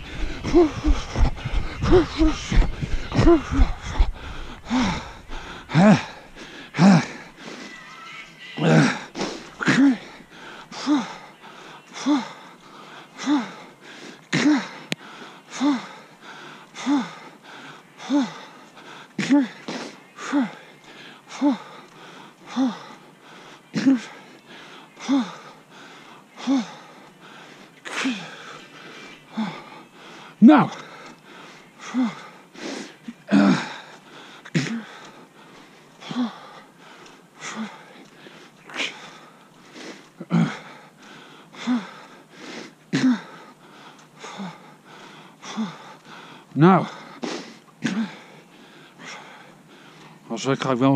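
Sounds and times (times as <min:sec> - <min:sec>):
runner's heavy breathing: 0:00.0 - 0:50.8.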